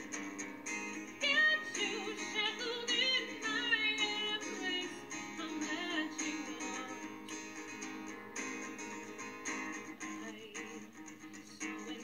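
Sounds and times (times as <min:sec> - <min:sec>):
acoustic guitar strumming: 0:00.0 - 0:12.0
woman singing: 0:01.1 - 0:07.9, 0:09.0 - 0:12.0.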